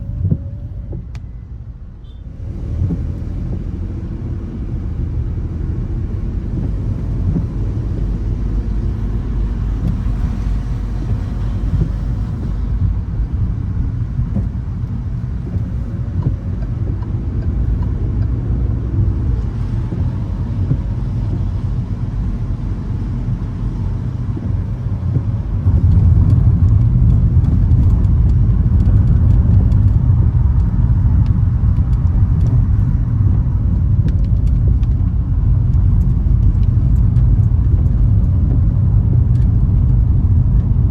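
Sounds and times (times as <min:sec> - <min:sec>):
car engine rumble: 0:00.0 - 0:40.9
tyres on wet road: 0:00.0 - 0:40.9
rain: 0:02.4 - 0:40.9.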